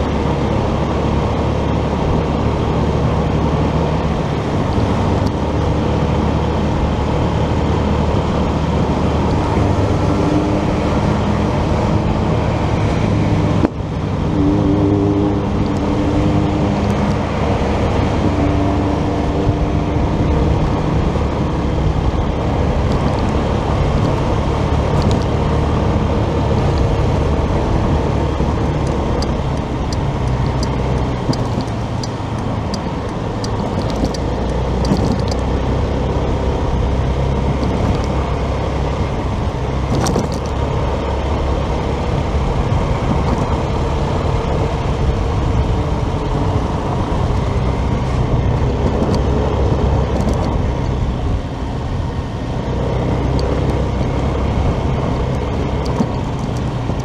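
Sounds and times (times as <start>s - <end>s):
motorcycle engine running: 0.0s - 57.0s
road and traffic noise: 0.0s - 57.0s.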